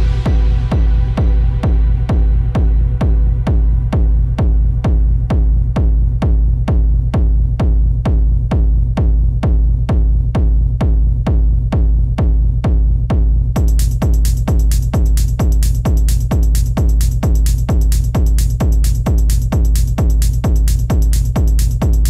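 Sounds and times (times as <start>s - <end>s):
deep kick drum: 0.0s - 22.0s
hi-hat pattern: 0.0s - 22.0s
techno music: 0.0s - 22.0s.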